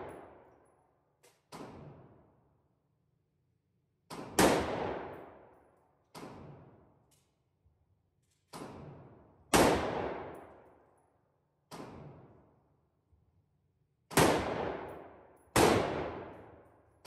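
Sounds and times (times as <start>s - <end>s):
gunshots echoing indoors: 0.0s - 2.9s, 4.0s - 7.5s, 8.1s - 13.2s, 13.8s - 17.0s.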